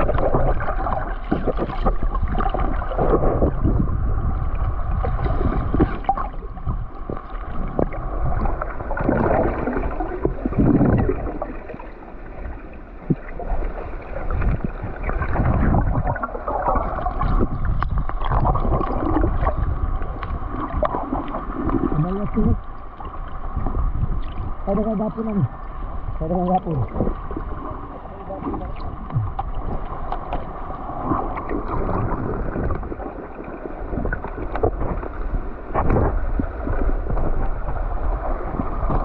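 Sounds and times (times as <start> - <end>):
wind on microphone: 0.0 - 11.5, 13.0 - 22.7, 23.4 - 39.0
water sloshing against boat hull: 0.0 - 39.0.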